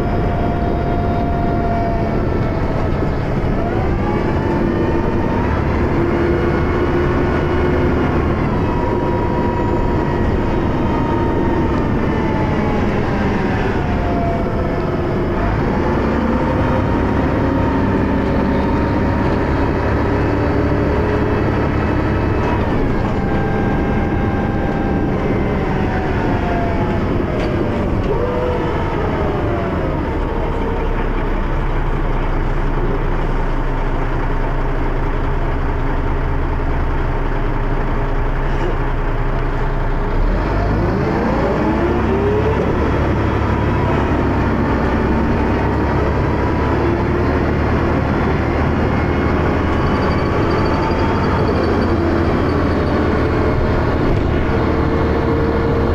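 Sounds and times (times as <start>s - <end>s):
bus diesel engine droning: 0.0s - 55.9s
gearbox whine: 0.0s - 55.9s.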